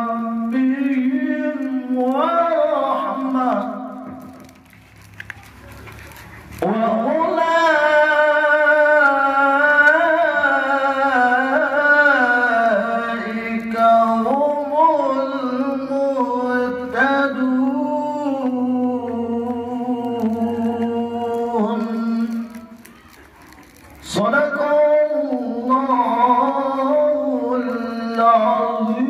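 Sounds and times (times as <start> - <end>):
man chanting melodically: 0.0 - 4.6, 6.6 - 22.8, 24.0 - 29.0.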